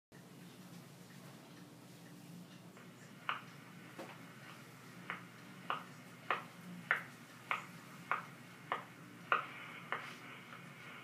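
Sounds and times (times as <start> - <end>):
low hum of surface noise: 0.2 - 11.0
phonograph music: 0.2 - 11.0.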